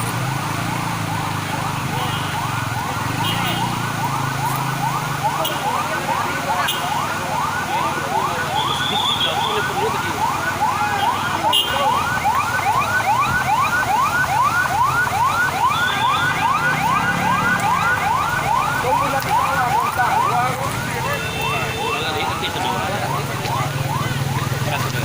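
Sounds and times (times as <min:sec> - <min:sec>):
siren yelping: 0:00.8 - 0:25.0.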